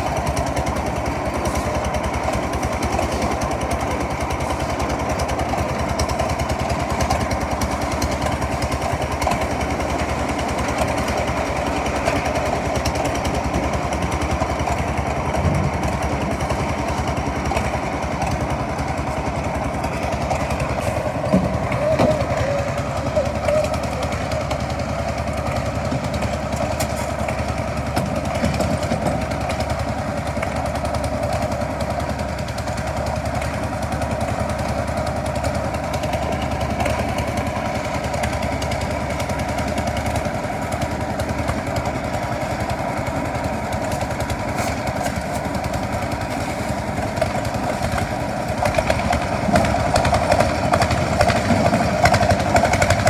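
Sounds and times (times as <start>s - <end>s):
concrete mixer running: 0.0s - 53.0s.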